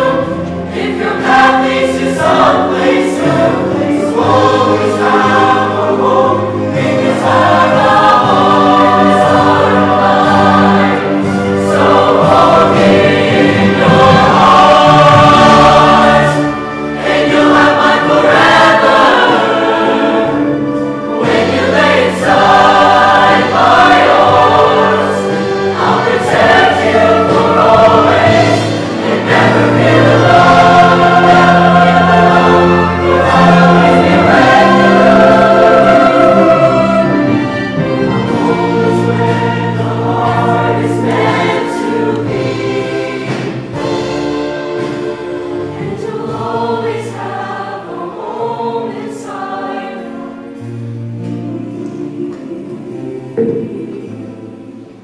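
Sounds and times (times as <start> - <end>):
choir singing in harmony: 0.0 - 55.0.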